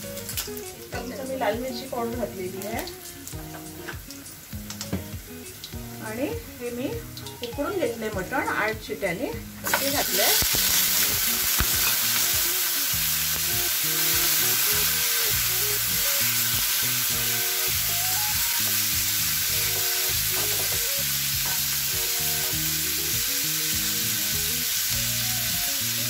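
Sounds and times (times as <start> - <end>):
light background music: 0.0 - 26.0
meat sizzling in oil: 0.0 - 26.0.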